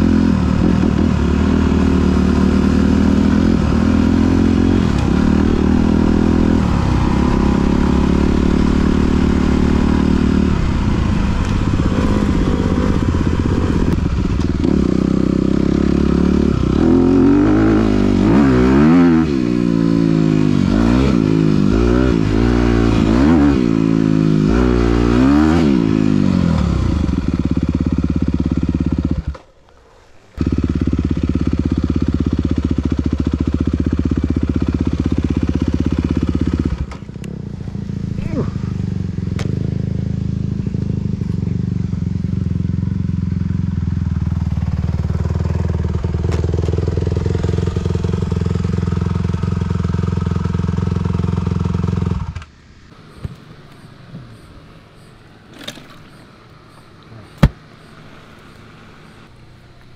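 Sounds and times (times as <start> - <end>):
dirt bike engine revving: 0.0 - 29.4, 30.4 - 54.4.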